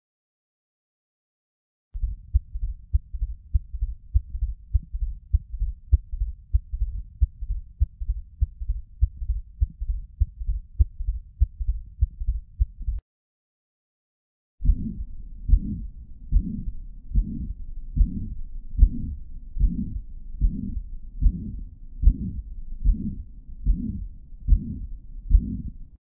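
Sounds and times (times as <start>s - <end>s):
heartbeat low thuds: 2.0s - 13.0s, 14.6s - 25.8s.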